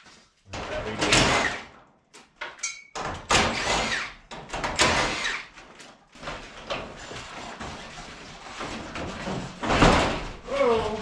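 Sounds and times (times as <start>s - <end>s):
metal garage door panels rattling: 0.6s - 1.9s, 2.9s - 11.0s.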